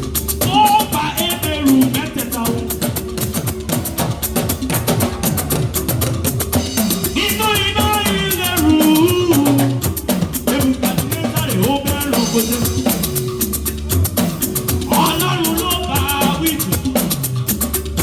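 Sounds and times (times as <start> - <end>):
bass line: 0.0 - 18.0
drum and shaker beat: 0.0 - 18.0
high melodic lead: 0.0 - 18.0.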